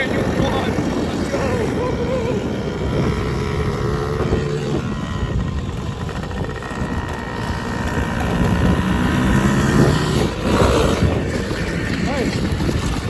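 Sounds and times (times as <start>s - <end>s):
quad engine revving: 0.0s - 13.0s.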